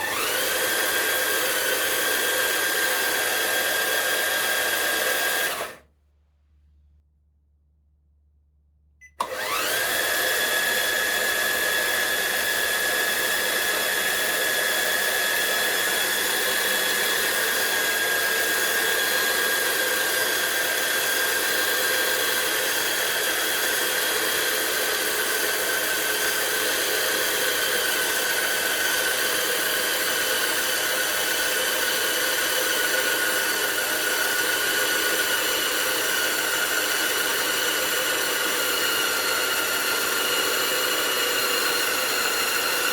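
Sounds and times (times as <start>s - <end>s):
electric motor whine: 0.0s - 5.8s, 9.2s - 42.9s.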